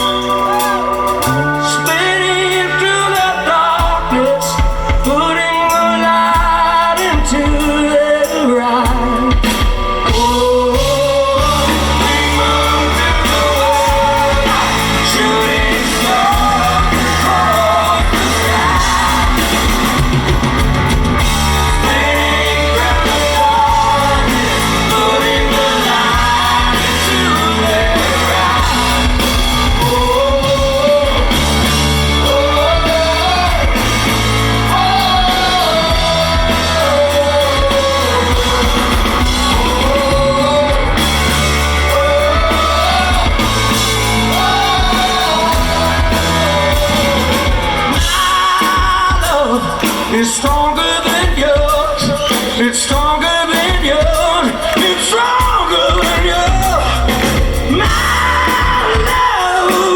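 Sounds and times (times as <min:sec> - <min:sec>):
live rock band playing: 0:00.0 - 0:59.9
person singing wordless vocal: 0:00.0 - 0:59.9.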